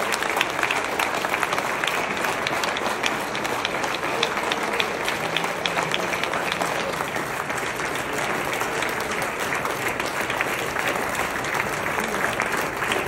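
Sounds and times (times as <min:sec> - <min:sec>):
audience applauding: 0:00.0 - 0:13.0
close individual claps: 0:00.0 - 0:13.0.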